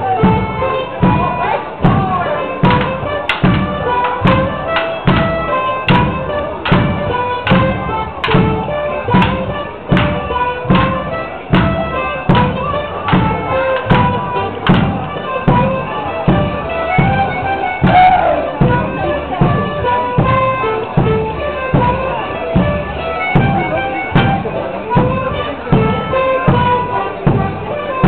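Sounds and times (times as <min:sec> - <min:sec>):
reedy folk dance tune: 0:00.0 - 0:28.0
sharp steady beat: 0:00.0 - 0:28.0.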